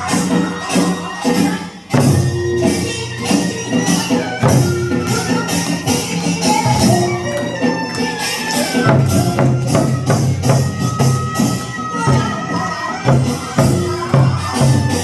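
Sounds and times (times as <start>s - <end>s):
bright metallic percussion: 0.0s - 15.0s.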